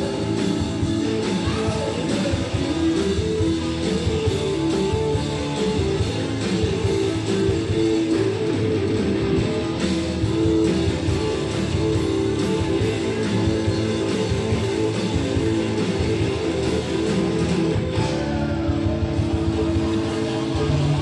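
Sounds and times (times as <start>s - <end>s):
blues-rock band playing: 0.0s - 21.0s
electric guitar: 0.0s - 21.0s.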